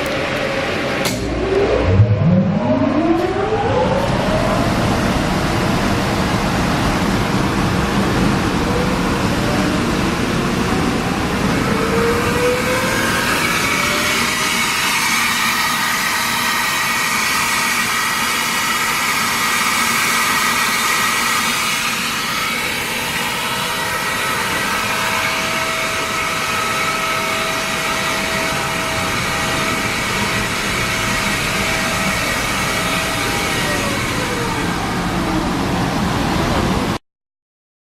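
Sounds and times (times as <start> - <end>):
air compressor running: 0.0 - 36.9
high compressor whine: 0.0 - 37.0.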